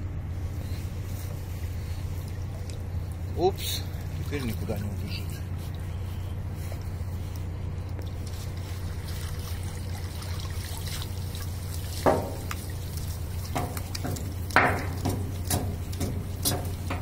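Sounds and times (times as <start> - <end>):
steady low hum: 0.0 - 17.0
water trickling and splashing: 1.8 - 17.0.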